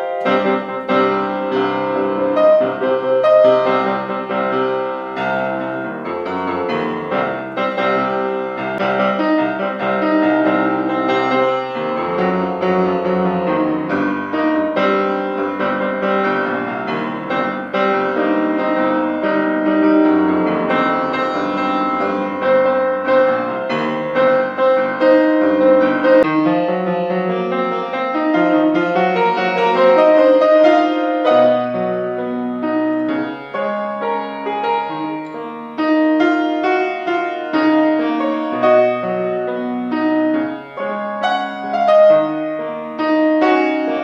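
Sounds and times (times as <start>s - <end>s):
piano piece: 0.0s - 44.0s.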